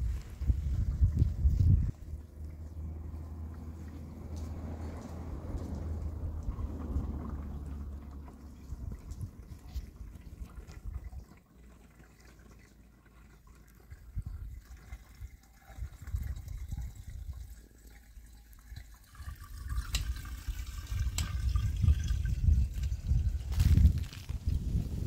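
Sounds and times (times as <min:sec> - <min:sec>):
liquid pouring and gurgling: 0:00.0 - 0:25.0.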